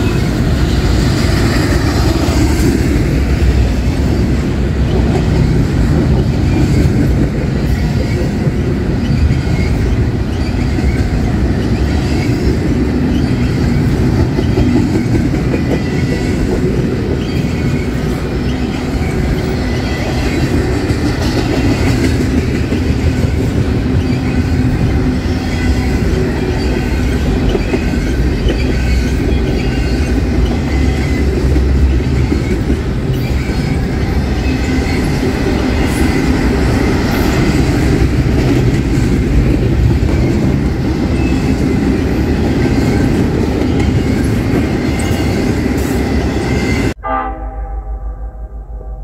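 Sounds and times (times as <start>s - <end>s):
freight train wheels roaring: 0.0s - 49.0s.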